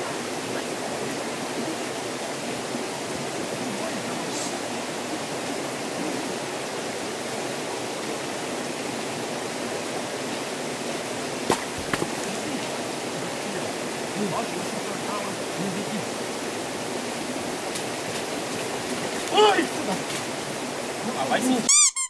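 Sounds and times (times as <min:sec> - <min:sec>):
stream rushing over rocks: 0:00.0 - 0:21.7.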